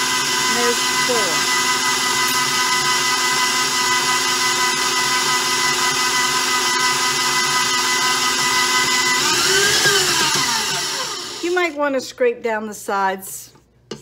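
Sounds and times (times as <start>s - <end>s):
stand mixer motor whine: 0.0s - 11.5s.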